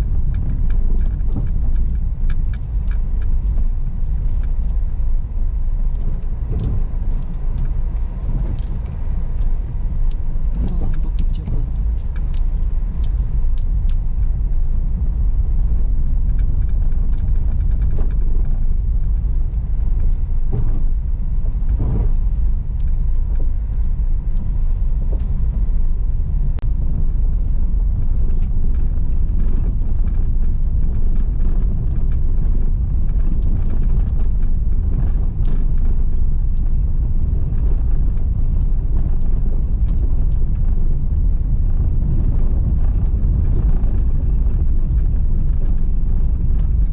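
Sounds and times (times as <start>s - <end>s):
engine and tyres rumbling: 0.0s - 46.9s.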